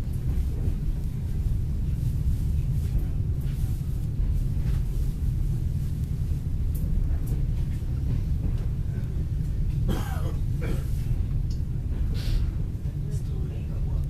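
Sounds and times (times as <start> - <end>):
train coach rumble: 0.0 - 14.0.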